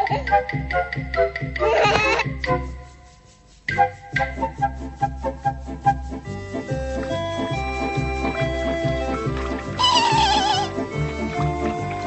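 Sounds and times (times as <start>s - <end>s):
cartoon soundtrack music: 0.0s - 3.1s, 3.7s - 12.0s.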